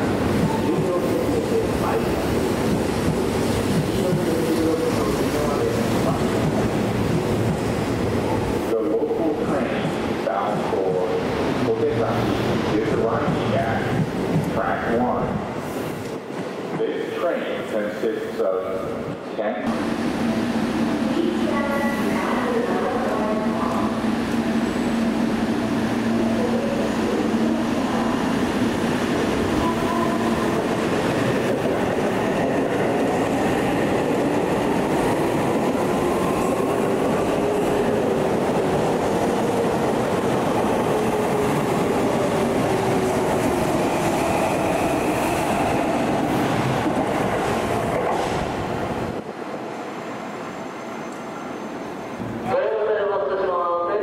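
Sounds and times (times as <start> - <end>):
train wheels rumbling on rails: 0.0 - 17.5, 18.9 - 49.8.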